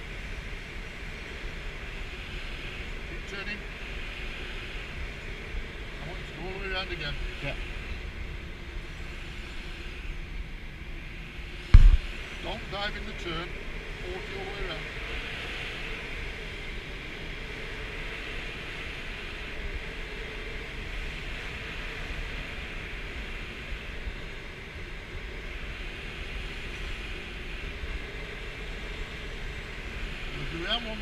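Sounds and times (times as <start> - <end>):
air rushing over glider canopy: 0.4 - 31.0.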